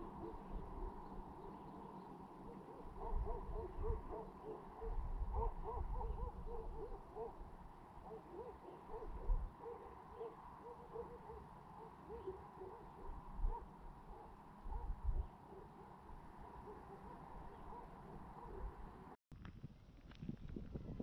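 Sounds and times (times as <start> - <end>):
birds hooting: 0.0 - 19.1.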